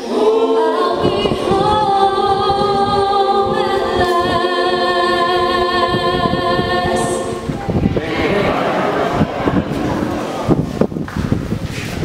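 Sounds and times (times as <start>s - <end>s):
mixed choir singing a cappella: 0.0s - 10.6s.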